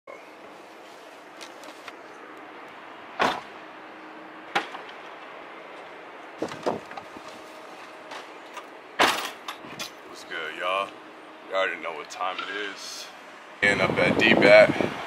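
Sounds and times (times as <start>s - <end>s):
steady outdoor hiss: 0.1s - 15.0s.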